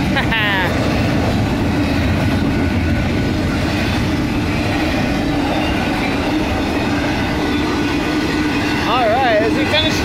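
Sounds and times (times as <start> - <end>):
freight train rolling past: 0.0 - 10.0.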